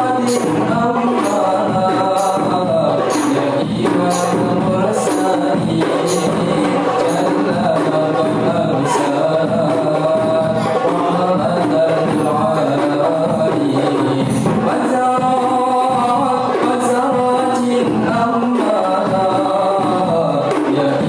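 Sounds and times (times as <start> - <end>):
frame drums beaten: 0.0 - 21.0
men singing together: 0.0 - 21.0.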